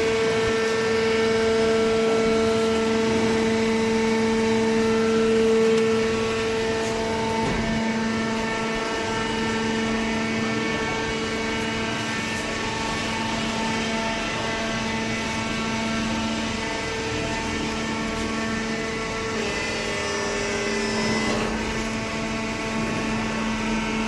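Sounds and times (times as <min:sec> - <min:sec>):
hydraulic pump motor whining: 0:00.0 - 0:24.0.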